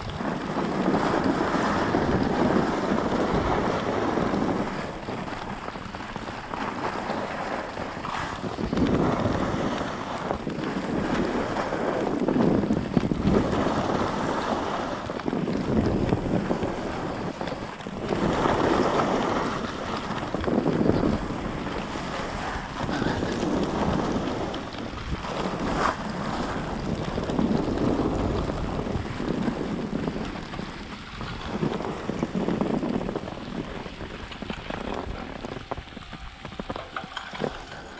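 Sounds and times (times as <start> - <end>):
skis scraping over snow: 0.0 - 37.9
wind buffeting microphone: 0.0 - 37.9.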